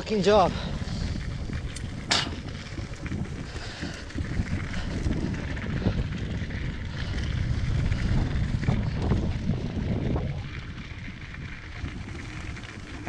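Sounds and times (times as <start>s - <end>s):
bike rattling and knocking: 0.0s - 13.0s
bike tyres rumbling on dirt: 0.0s - 13.0s
wind buffeting microphone: 0.0s - 13.0s.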